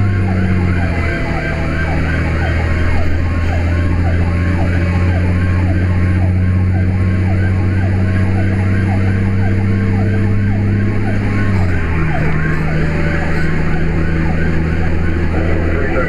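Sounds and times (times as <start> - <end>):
engine drone: 0.0 - 16.0
fire engine siren cycling: 0.0 - 16.0.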